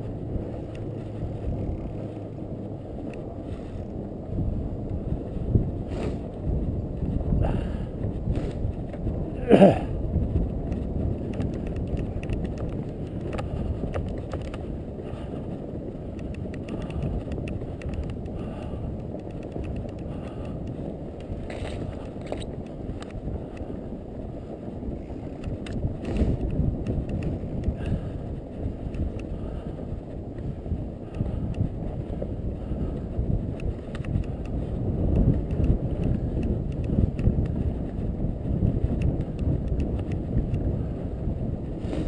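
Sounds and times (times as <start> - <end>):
bike clicks and rattles: 0.0 - 42.0
bike tyres on snow: 0.0 - 42.0
wind on microphone: 0.0 - 42.0.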